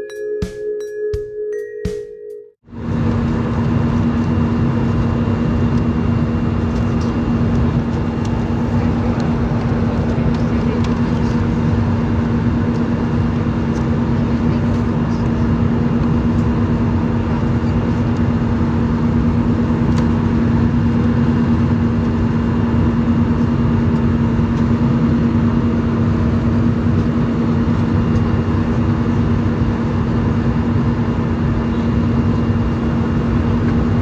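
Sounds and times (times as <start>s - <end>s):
airplane cabin engine rush: 2.6s - 34.0s
constant low hum: 2.7s - 34.0s.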